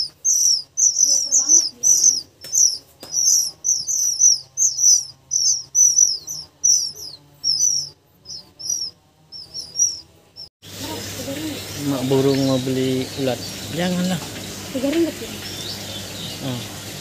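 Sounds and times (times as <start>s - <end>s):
nestlings chirping: 0.0s - 16.9s.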